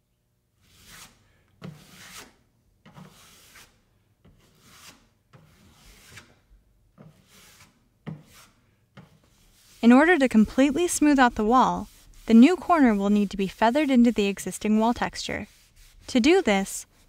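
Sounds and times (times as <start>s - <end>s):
taping knife scraping compound: 0.6s - 6.4s, 7.0s - 17.0s.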